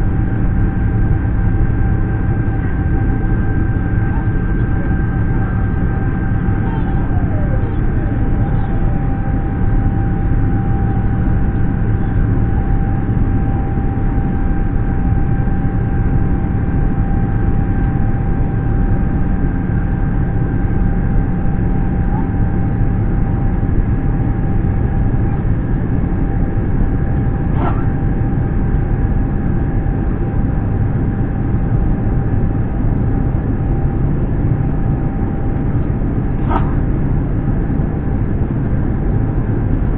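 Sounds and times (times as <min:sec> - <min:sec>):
airliner cabin noise: 0:00.0 - 0:39.9
faint steady whine: 0:00.0 - 0:39.9.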